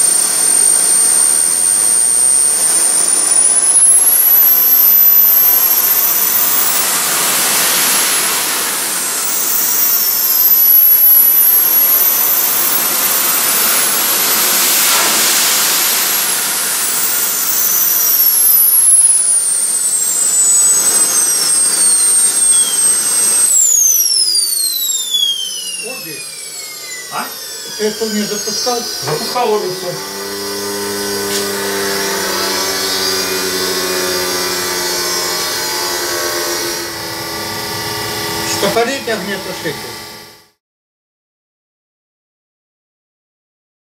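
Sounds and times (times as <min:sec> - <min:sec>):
model jet turbine whine: 0:00.0 - 0:40.6.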